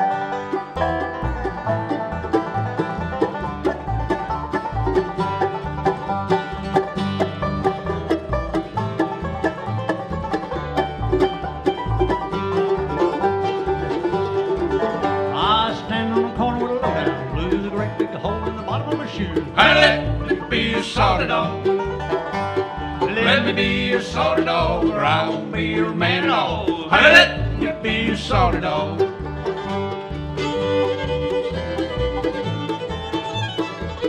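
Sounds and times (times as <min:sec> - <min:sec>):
bluegrass band playing: 0:00.0 - 0:34.0.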